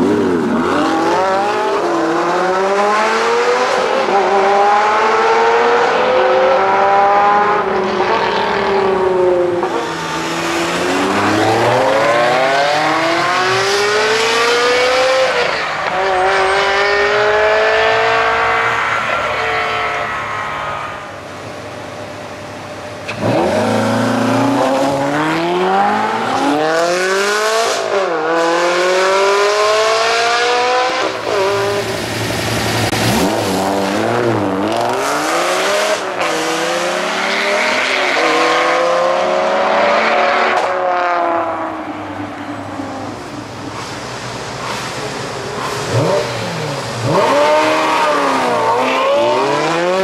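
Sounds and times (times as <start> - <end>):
car engine accelerating hard: 0.0 - 20.8, 23.0 - 41.8, 43.0 - 50.0.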